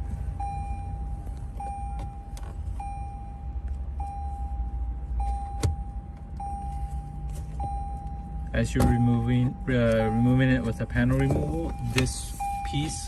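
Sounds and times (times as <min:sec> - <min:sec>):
car warning chime beeping: 0:00.0 - 0:13.0.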